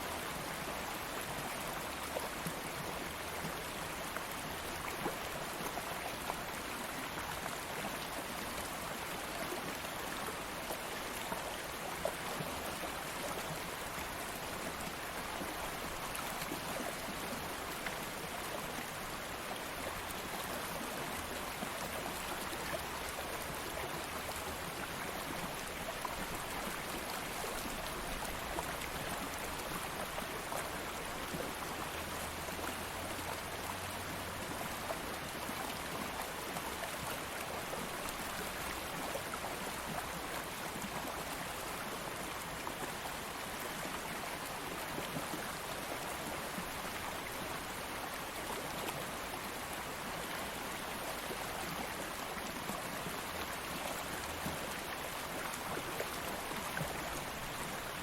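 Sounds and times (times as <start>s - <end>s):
stream of water flowing: 0.0s - 58.0s.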